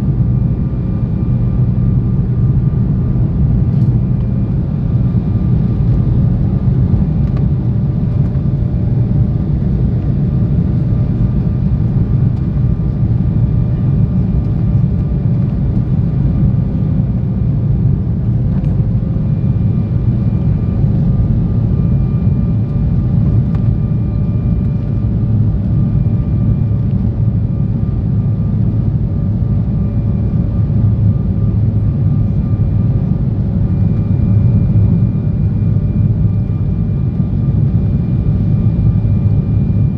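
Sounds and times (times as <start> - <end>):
faint engine whine: 0.0 - 39.9
jet engines and airflow rumble: 0.0 - 39.9.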